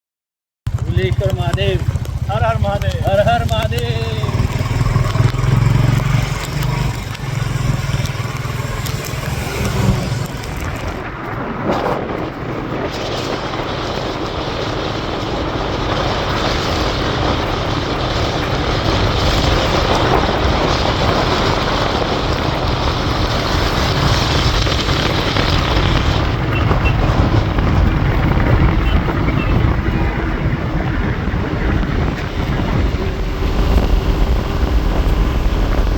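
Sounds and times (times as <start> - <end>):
motorcycle engine running: 0.7 - 35.9
wind and road noise: 0.7 - 35.9.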